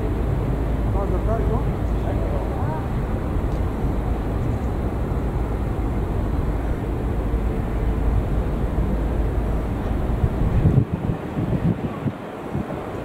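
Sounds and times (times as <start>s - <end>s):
distant train rumbling: 0.0s - 13.0s.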